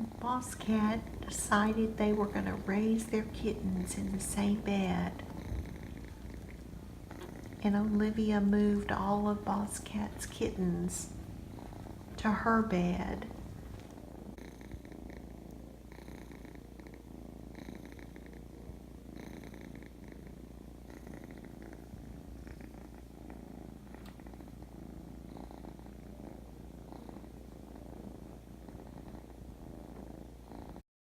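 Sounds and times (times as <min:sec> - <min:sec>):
cat purring: 0:00.0 - 0:30.8.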